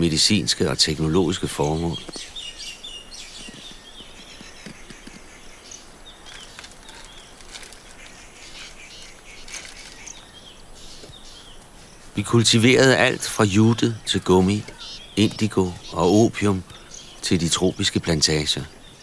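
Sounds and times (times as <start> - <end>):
birds chirping: 0.0 - 19.0
steady outdoor hiss: 0.0 - 19.0.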